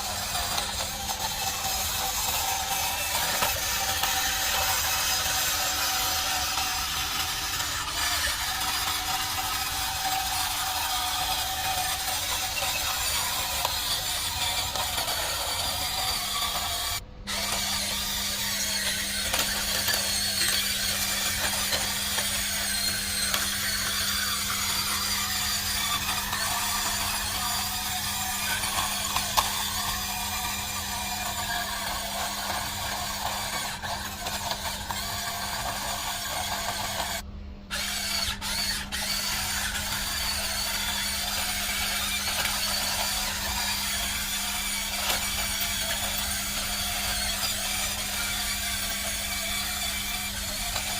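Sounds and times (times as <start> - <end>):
constant hum: 0.0 - 50.9
small electric motors whirring: 0.0 - 50.9.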